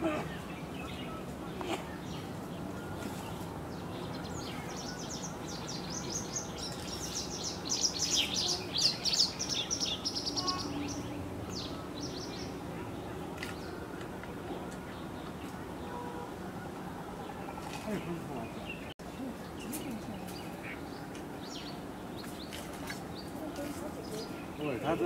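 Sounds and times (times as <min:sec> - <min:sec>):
birds chirping: 0:00.0 - 0:25.0
low background noise: 0:00.0 - 0:25.0.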